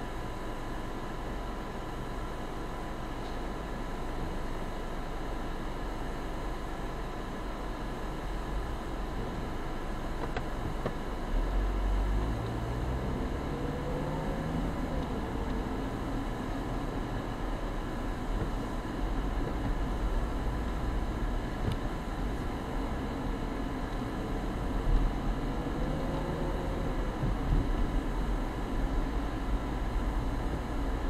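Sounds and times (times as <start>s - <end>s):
car engine: 0.0s - 31.0s
road noise inside car: 0.0s - 31.0s.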